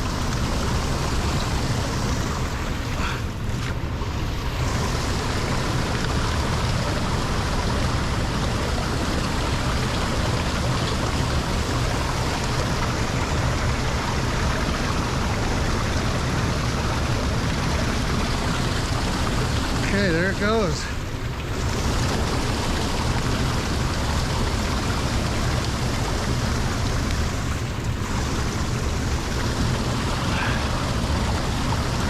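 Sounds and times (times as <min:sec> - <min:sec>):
water rushing into drain: 0:00.0 - 0:32.0.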